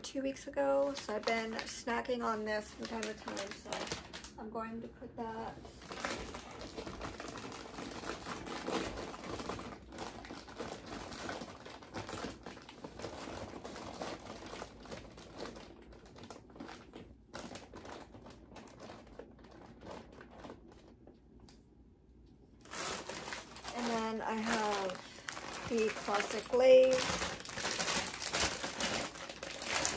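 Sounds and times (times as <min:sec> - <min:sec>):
plastic snack bags crinkling: 0:00.0 - 0:21.2, 0:22.6 - 0:29.9.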